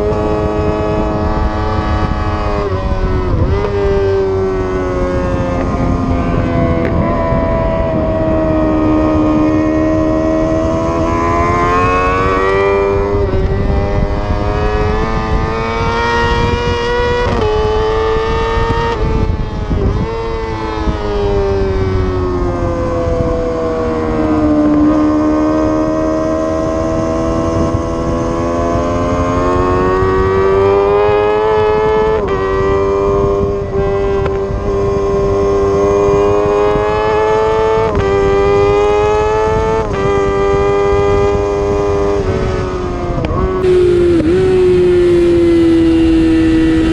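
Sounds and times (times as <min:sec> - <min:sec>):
sportbike engine at high revs: 0:00.0 - 0:46.9
wind rushing: 0:00.0 - 0:46.9.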